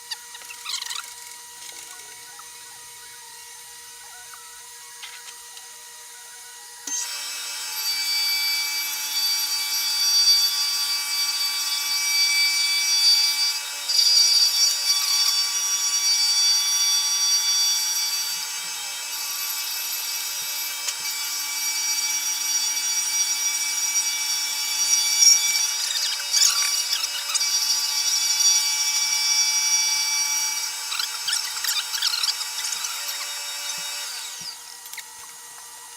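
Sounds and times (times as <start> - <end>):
cutter rasping wood: 0.0 - 35.8
milling spindle high whine: 0.0 - 35.9.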